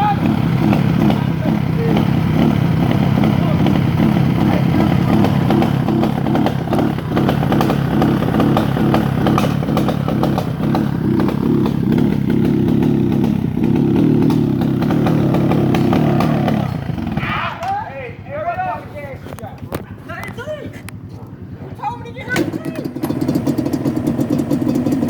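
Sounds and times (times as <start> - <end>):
two-stroke engine running: 0.0 - 25.0.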